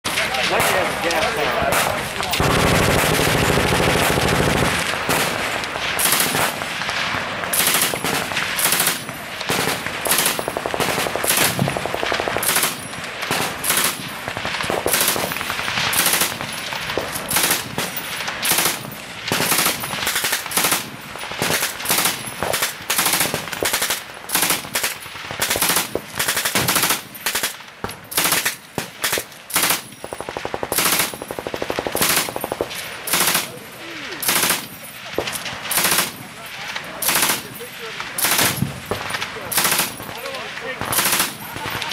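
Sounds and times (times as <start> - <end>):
background gunfire: 0.0 - 41.9
machine gun firing bursts: 0.1 - 41.9.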